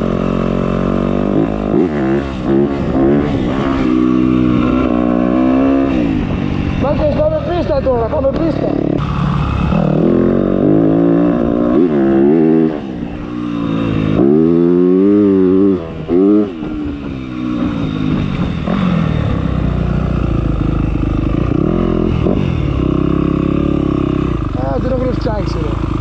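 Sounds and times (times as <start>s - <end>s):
motocross motorcycle engine revving: 0.0s - 26.0s.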